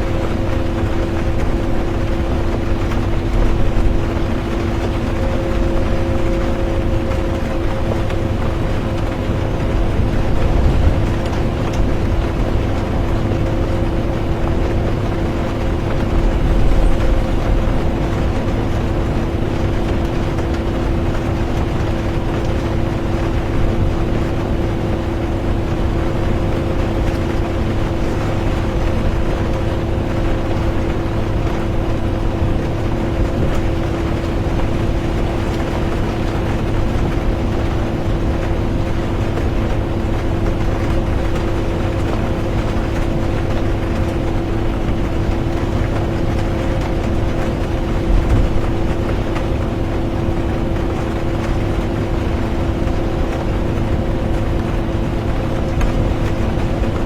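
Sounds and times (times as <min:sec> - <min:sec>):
bus engine and road rumble: 0:00.0 - 0:57.0
constant hum: 0:00.0 - 0:57.0.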